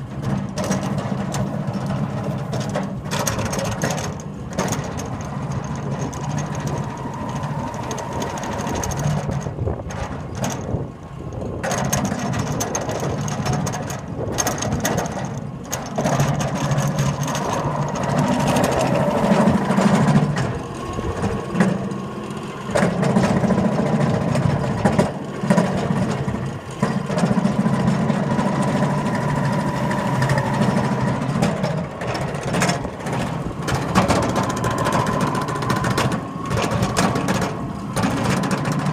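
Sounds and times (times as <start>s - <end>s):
low machine rumble: 0.0s - 38.9s
belt-driven machine whining: 1.5s - 9.7s, 14.6s - 38.9s.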